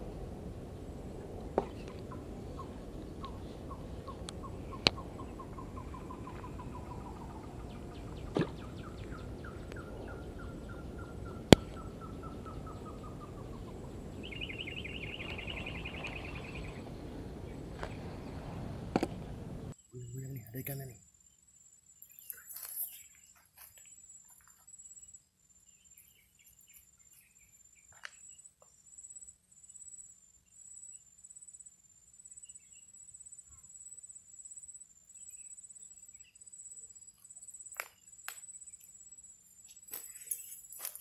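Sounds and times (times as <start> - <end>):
insect chirping: 0.0 - 18.8, 19.6 - 41.0.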